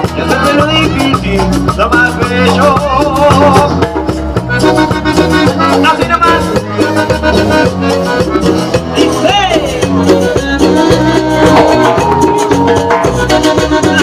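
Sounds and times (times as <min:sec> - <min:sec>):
instrumental cumbia band music: 0:00.0 - 0:14.0.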